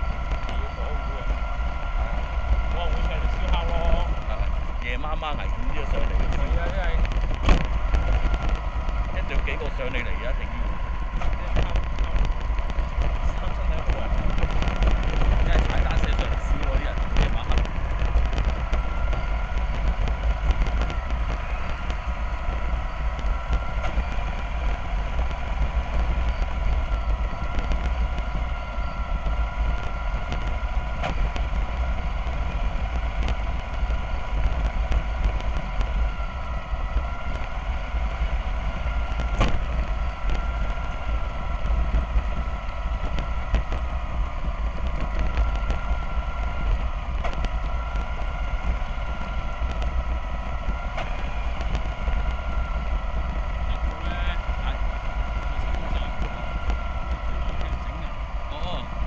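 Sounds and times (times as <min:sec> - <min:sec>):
bus engine rumble: 0:00.0 - 0:59.0
wavering whine: 0:00.0 - 0:59.0.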